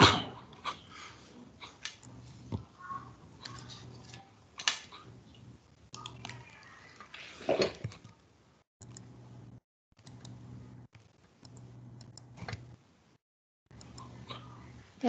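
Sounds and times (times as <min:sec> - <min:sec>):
low steady hum: 0:00.0 - 0:06.8, 0:07.7 - 0:15.0.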